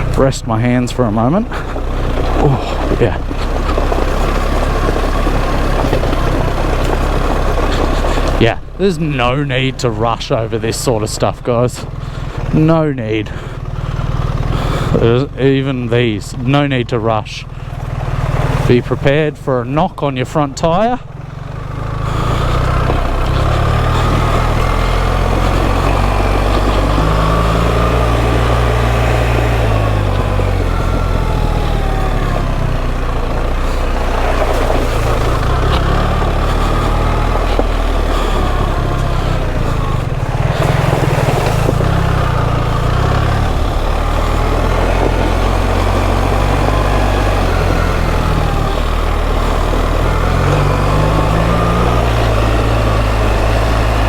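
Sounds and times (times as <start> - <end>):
motorcycle engine at low revs: 0.0 - 54.0
riding noise: 0.0 - 54.0.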